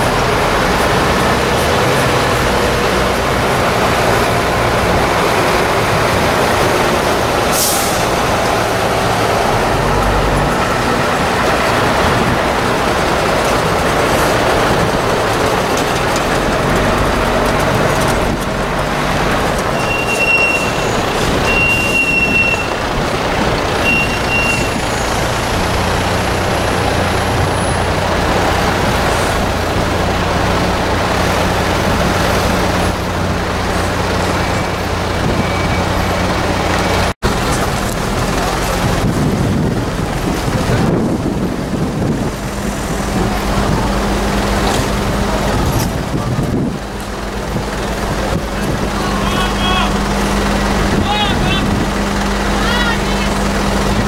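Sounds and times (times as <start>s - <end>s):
fire engines rolling past: 0.0s - 54.0s
truck engine low hum: 0.0s - 54.0s.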